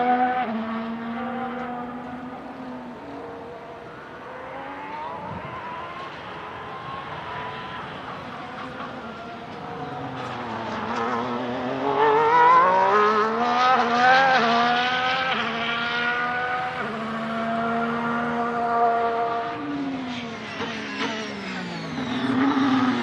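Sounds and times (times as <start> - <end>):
race car engine accelerating: 0.0 - 23.0.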